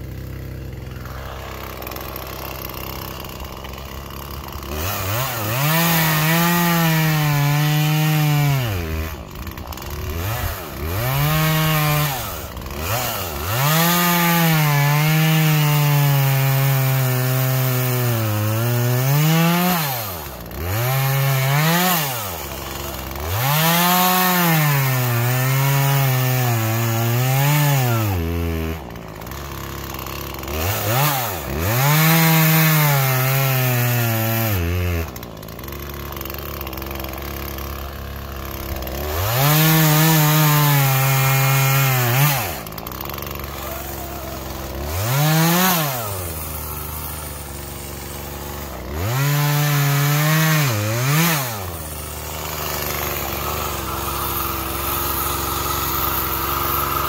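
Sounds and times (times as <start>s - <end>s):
chainsaw cutting wood: 0.0s - 57.0s
chainsaw idling: 0.0s - 57.0s.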